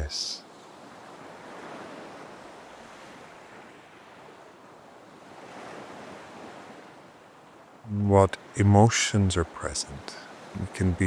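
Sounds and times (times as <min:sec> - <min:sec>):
ocean waves washing on shore: 0:00.0 - 0:11.0.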